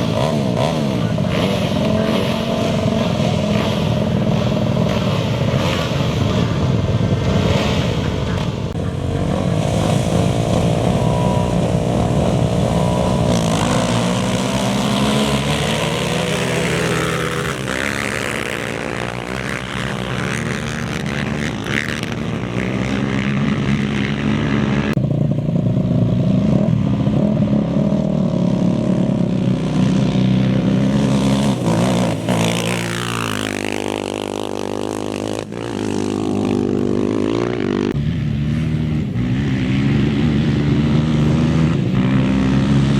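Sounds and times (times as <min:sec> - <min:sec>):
race vehicle engines passing: 0:00.0 - 0:42.9.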